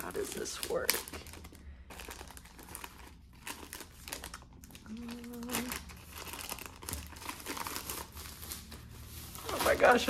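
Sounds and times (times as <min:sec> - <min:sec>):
plastic sleeve crinkling: 0:00.0 - 0:10.0.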